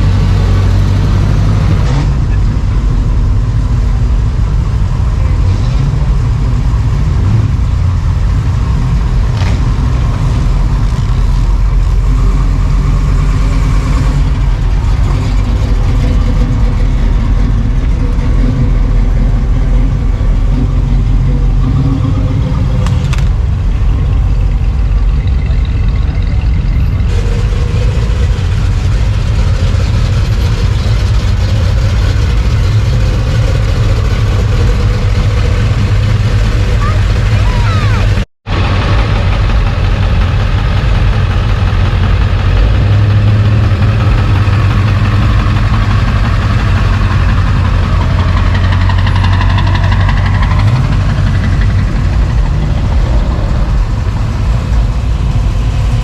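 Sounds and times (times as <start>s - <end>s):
car engine rumbling: 0.0s - 56.0s.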